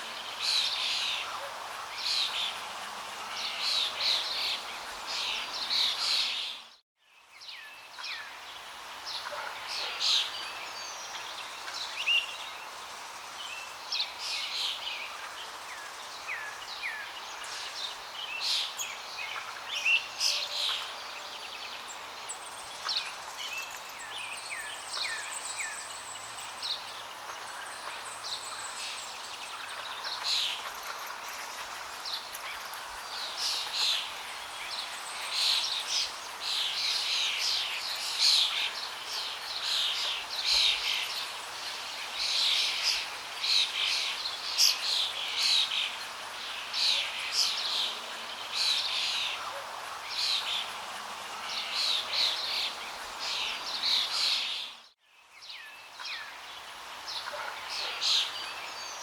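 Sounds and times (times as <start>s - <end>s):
flowing water hiss: 0.0s - 6.7s, 7.4s - 54.8s, 55.4s - 59.0s
small birds chirping and trilling: 0.0s - 59.0s.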